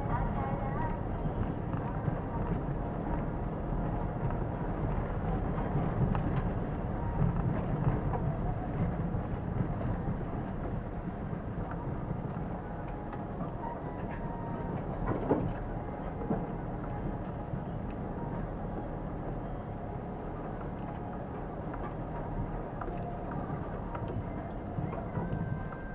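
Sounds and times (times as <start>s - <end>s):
tyre and engine rumble: 0.0s - 25.9s.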